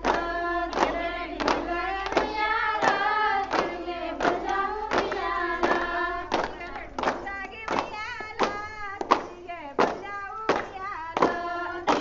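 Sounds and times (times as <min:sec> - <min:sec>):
hand claps in unison: 0:00.0 - 0:12.0
women singing folk song: 0:00.0 - 0:12.0.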